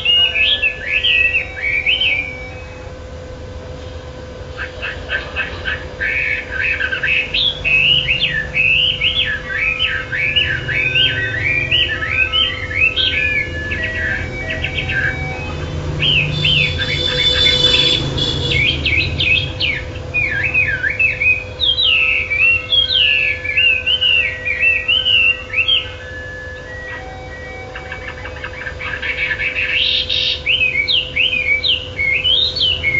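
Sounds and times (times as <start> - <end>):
songbird singing: 0.0 - 3.0, 4.5 - 32.9
steady low hum: 0.0 - 32.9.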